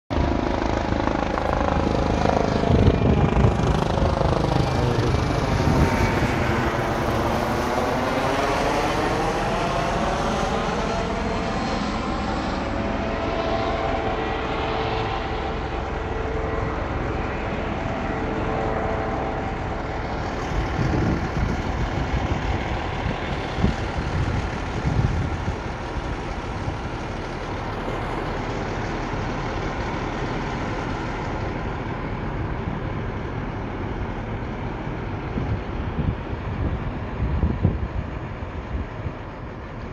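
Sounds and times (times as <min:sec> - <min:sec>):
helicopter flying overhead: 0:00.1 - 0:39.9.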